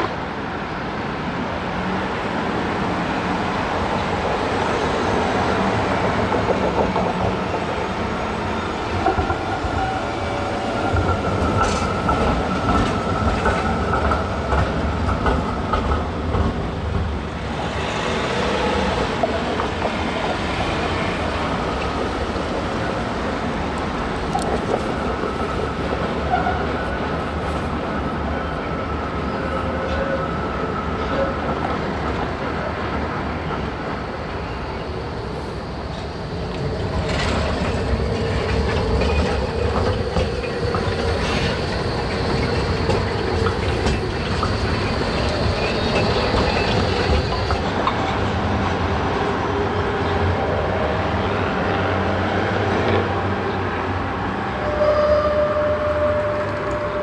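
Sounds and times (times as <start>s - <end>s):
tram wheels rumbling on track: 0.0s - 57.0s
tram wheels squealing: 3.2s - 57.0s.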